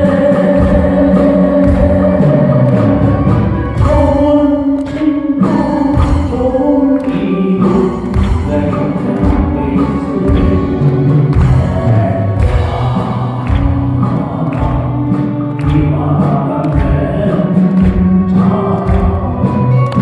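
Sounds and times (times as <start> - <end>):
live band with singing: 0.0 - 20.0.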